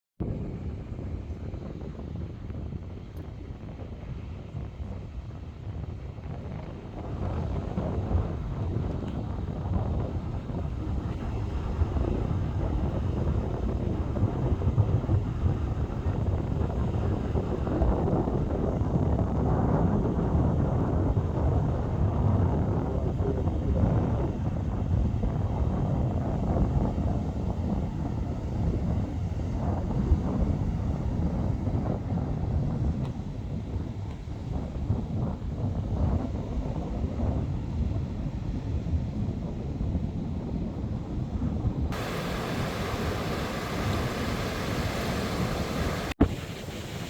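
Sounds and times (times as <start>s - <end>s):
wind buffeting microphone: 0.2s - 47.0s.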